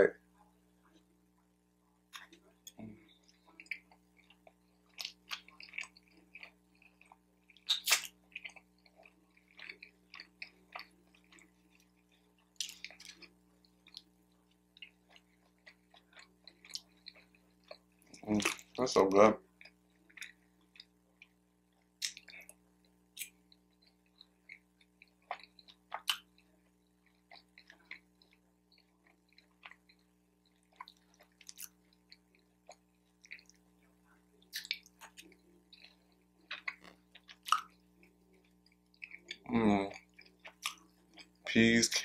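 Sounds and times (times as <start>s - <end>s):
chewing with mouth clicks: 2.1s - 18.8s, 19.6s - 41.6s.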